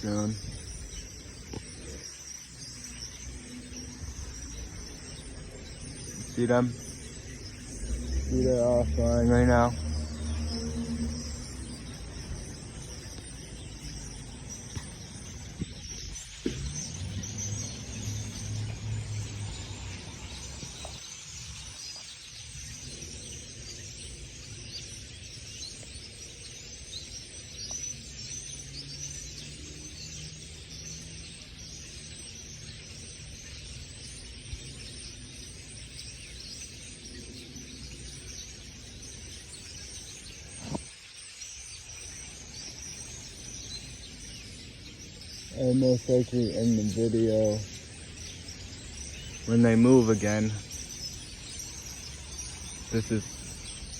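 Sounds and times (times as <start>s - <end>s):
flock of birds chirping: 0.0s - 53.9s.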